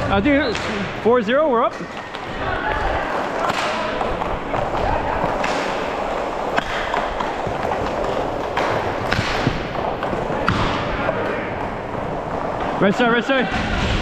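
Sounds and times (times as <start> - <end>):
skate wheels rolling on tiles: 1.4 - 13.4
sticks and puck clacking: 1.5 - 13.4.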